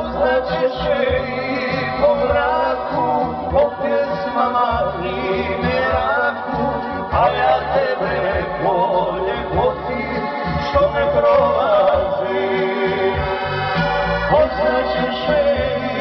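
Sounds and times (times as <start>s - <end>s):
accordion melody: 0.0s - 16.0s
keyboard: 0.0s - 16.0s
pulsing bass notes: 0.0s - 16.0s.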